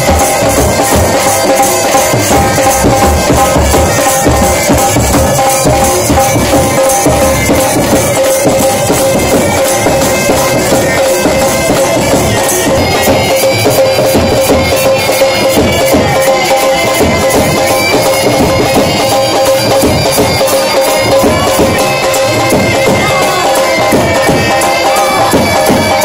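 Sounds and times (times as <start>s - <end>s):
bagpipes playing: 0.0s - 26.0s
drumbeats: 0.0s - 26.0s.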